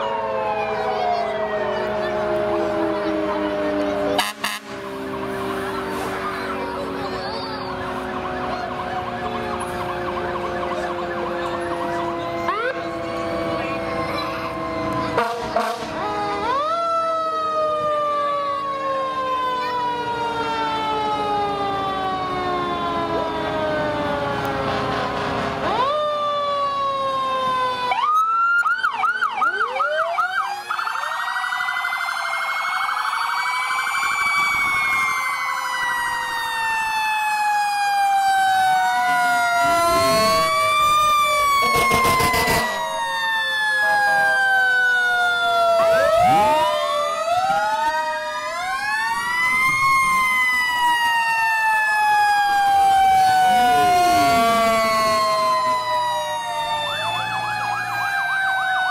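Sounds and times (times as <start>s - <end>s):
fire truck sirens wailing: 0.0s - 58.9s.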